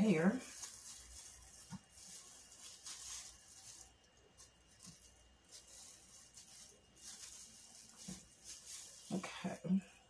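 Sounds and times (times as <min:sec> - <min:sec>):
gloved hands rustling: 0:00.0 - 0:10.0.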